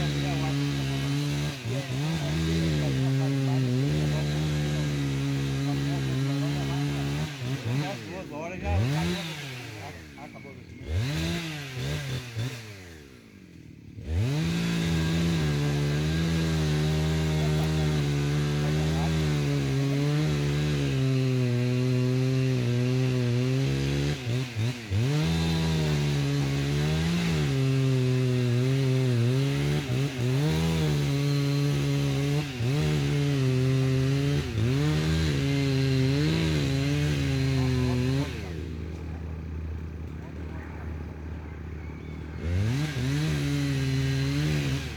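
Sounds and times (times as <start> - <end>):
chainsaw cutting wood: 0.0 - 40.6, 42.2 - 44.9.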